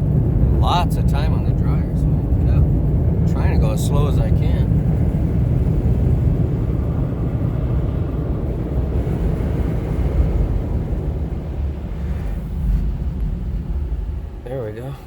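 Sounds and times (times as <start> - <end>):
car wash dryer blowers: 0.0 - 15.0.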